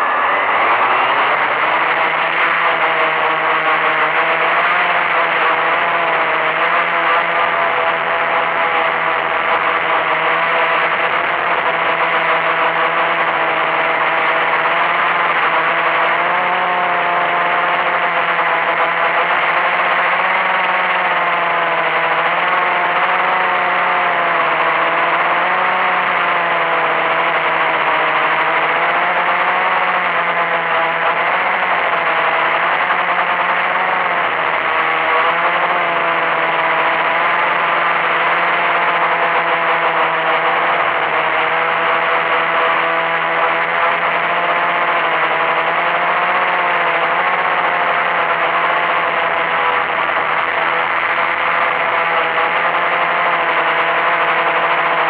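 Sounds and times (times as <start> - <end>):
electric motors and propellers whirring: 0.0 - 55.0.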